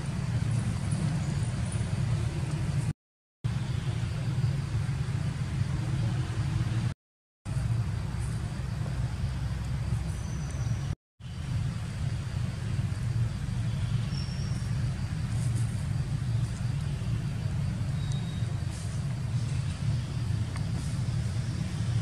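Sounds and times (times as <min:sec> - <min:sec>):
low outdoor background rumble: 0:00.0 - 0:22.0.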